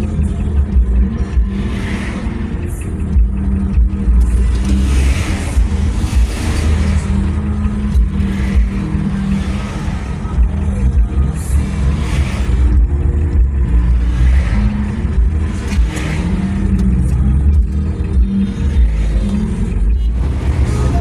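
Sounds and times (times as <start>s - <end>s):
car engine hum: 0.0s - 21.0s.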